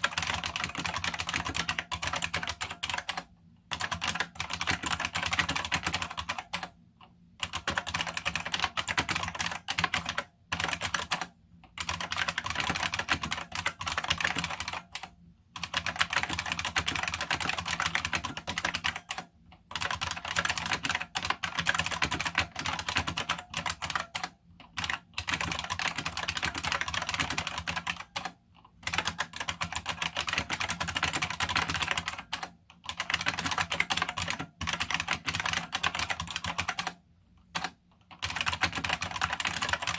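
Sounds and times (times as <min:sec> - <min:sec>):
fast typing on clicky keyboard: 0:00.0 - 0:06.8, 0:07.4 - 0:39.9.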